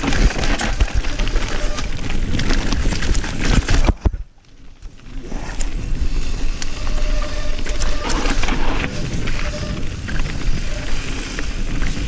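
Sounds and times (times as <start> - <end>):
bike rattling: 0.0 - 12.0
bike tyres crunching over stones: 0.0 - 12.0.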